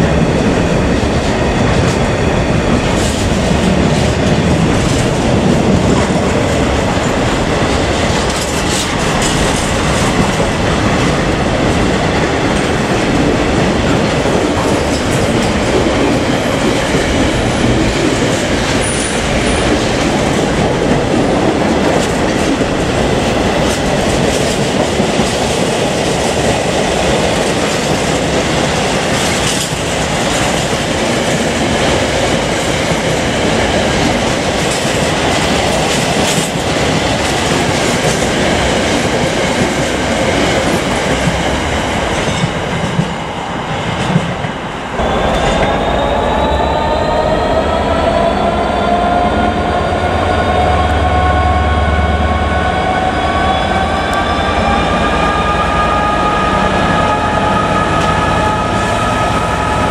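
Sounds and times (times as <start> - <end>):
diesel locomotive engine working: 0.0 - 59.9.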